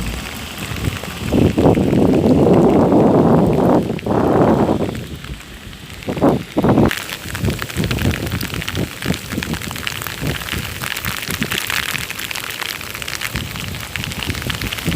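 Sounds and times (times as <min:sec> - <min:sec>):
rain falling: 0:00.0 - 0:14.9.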